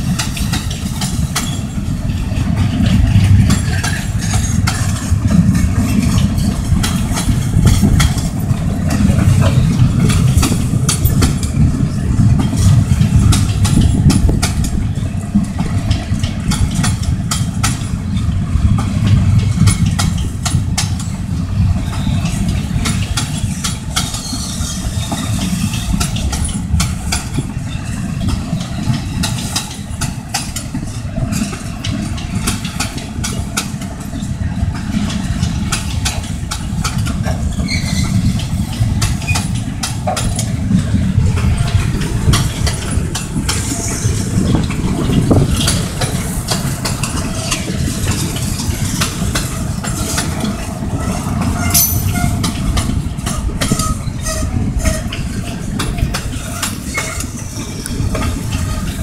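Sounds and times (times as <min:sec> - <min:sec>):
train wheels rumbling on rail: 0:00.0 - 0:59.0
wheels clicking and clanking: 0:00.0 - 0:59.0.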